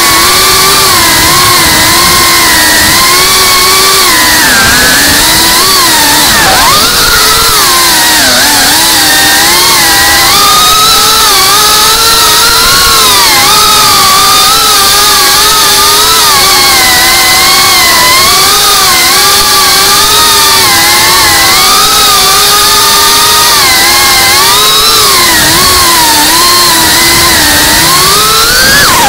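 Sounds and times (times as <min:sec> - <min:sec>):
drone motors and propellers whining: 0:00.0 - 0:29.0.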